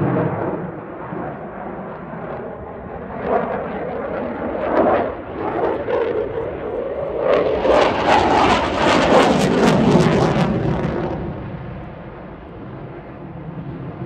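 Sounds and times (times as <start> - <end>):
jet engine roaring: 0.0 - 14.0.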